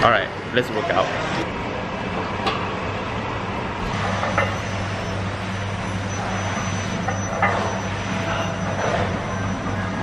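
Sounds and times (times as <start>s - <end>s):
low mechanical hum: 0.0s - 10.0s
rushing room noise: 0.0s - 10.0s.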